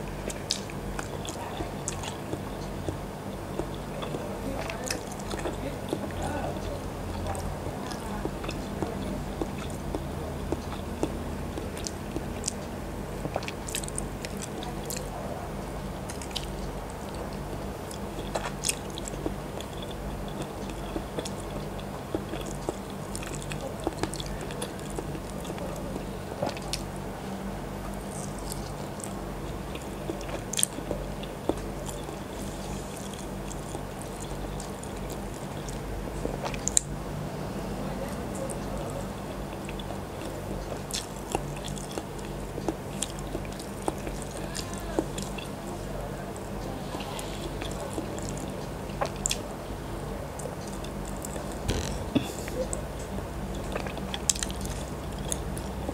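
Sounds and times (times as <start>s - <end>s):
chewing with mouth smacks: 0.0s - 37.3s, 38.1s - 49.5s, 50.3s - 55.9s
faint low hum: 0.0s - 55.9s.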